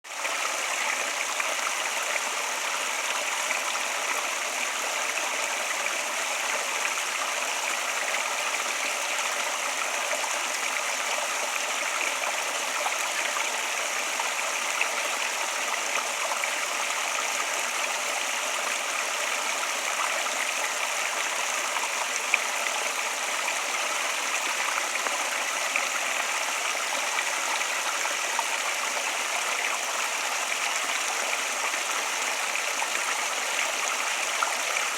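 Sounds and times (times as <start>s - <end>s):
flowing water rushing: 0.1s - 34.9s.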